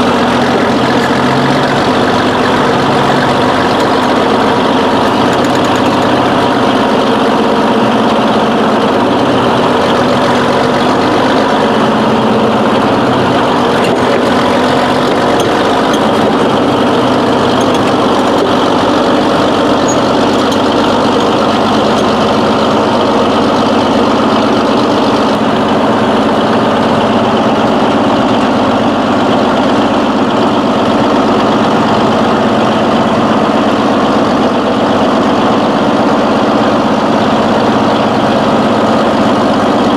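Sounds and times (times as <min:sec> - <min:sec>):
large engine idling: 0:00.0 - 0:39.9.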